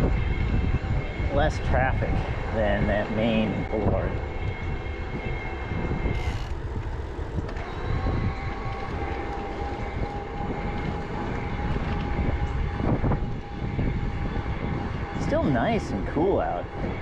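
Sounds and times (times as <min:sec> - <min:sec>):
wind rumbling on microphone: 0:00.0 - 0:17.0
electric motor whine: 0:02.0 - 0:17.0.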